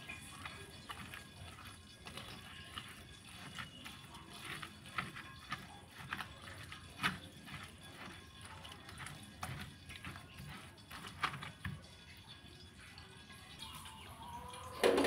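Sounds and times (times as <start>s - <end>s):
pestle knocking and grinding in mortar: 0.0s - 12.3s.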